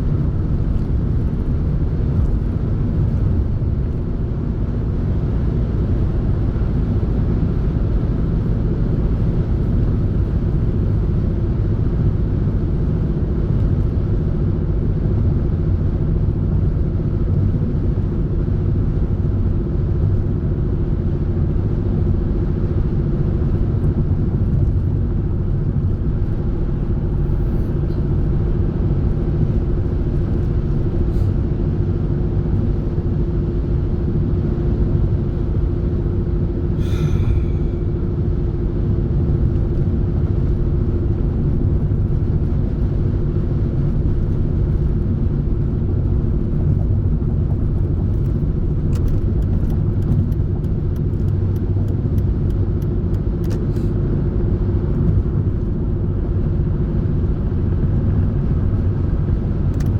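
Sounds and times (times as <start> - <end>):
engine hum: 0.0 - 59.9
road rumble inside car: 0.0 - 59.9.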